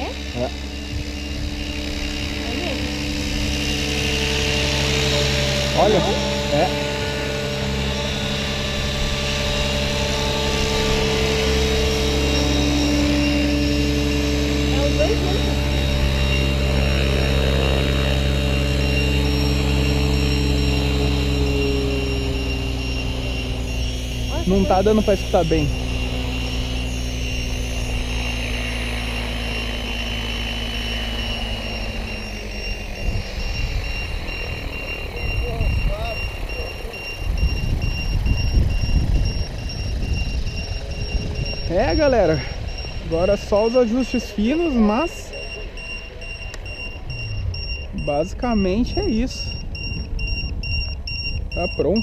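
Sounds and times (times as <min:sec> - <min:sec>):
helicopter motor whine and rotor hum: 0:00.0 - 0:52.0.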